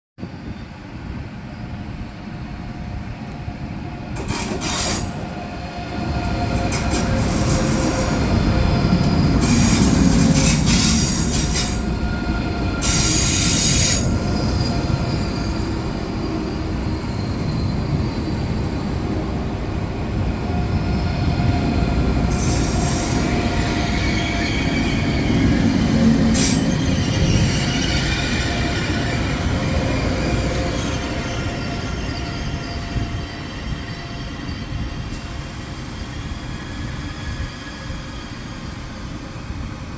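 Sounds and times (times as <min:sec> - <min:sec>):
train rumbling into station: 0:00.2 - 0:39.9
wheel and brake squeal: 0:04.3 - 0:05.3, 0:06.5 - 0:19.2, 0:20.5 - 0:39.5.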